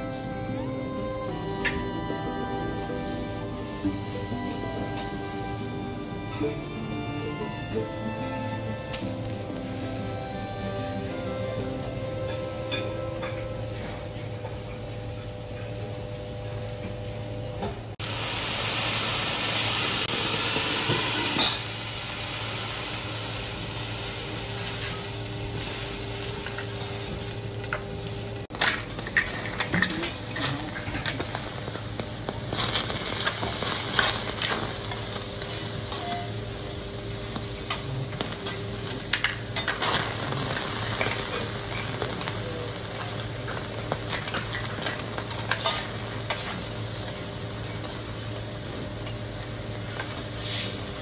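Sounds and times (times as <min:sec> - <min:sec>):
food sizzling on a griddle: 0:00.0 - 0:14.8, 0:18.0 - 0:51.0.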